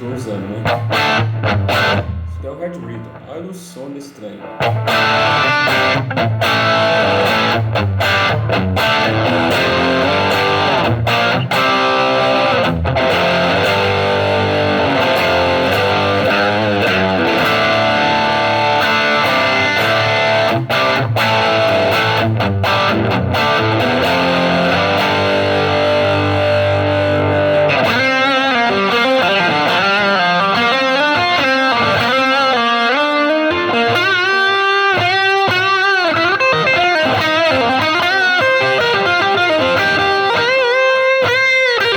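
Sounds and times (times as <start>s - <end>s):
distorted electric guitar: 0.0s - 3.3s, 4.4s - 41.9s.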